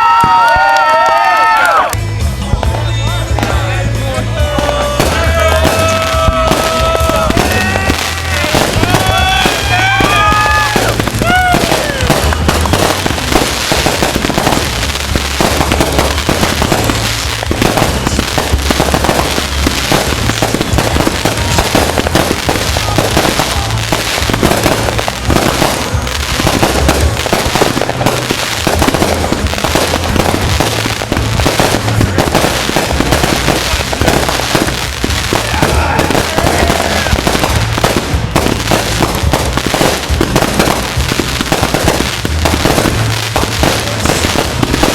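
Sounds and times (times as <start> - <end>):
fireworks bangs and crackles: 0.0 - 44.9
fireworks whistles: 0.0 - 44.9.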